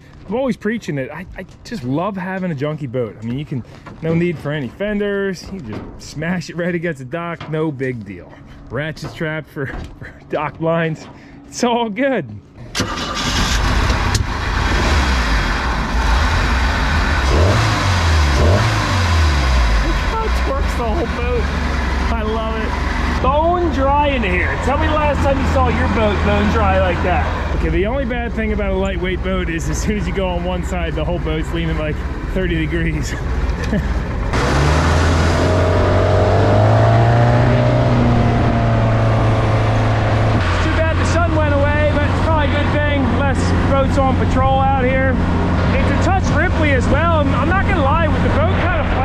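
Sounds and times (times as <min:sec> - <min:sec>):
boat engine rumbling: 0:00.0 - 0:11.7, 0:12.4 - 0:49.0.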